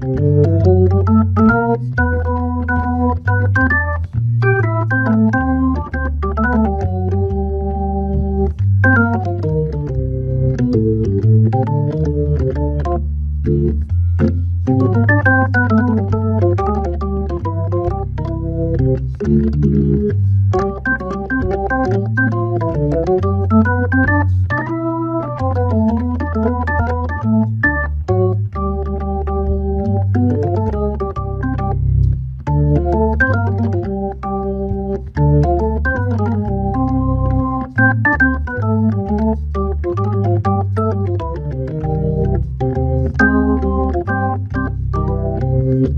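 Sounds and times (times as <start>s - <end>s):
organ playing jazz waltz: 0.0s - 45.9s.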